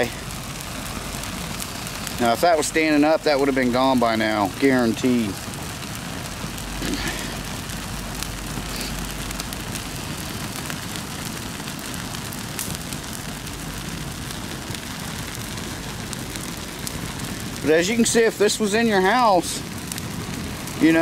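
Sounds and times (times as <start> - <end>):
fire burning with crackles: 0.0 - 21.0.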